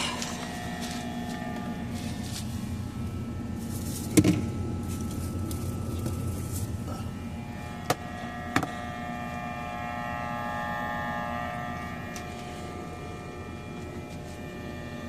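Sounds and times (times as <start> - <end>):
machine hum with pitched tones: 0.0 - 15.0.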